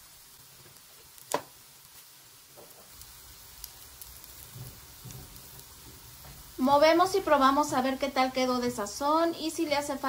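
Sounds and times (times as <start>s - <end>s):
sauce sizzling in a pot: 0.0s - 10.0s.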